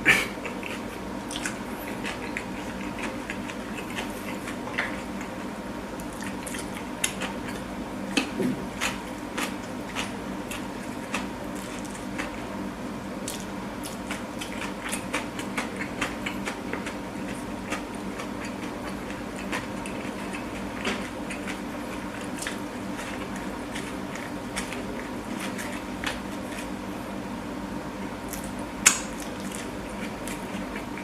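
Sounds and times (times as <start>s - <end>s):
chewing food close up: 0.4s - 26.9s, 28.2s - 31.0s.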